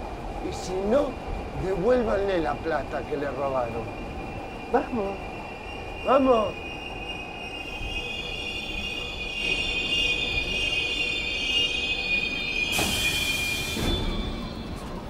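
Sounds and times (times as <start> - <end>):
subway train metallic squeal: 0.4 - 15.0.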